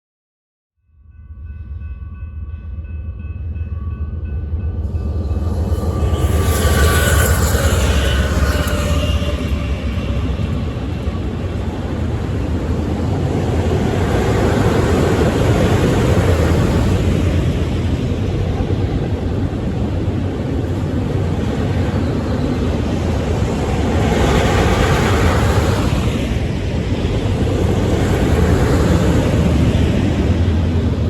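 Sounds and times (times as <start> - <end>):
freight train rumbling by: 1.1 - 31.0.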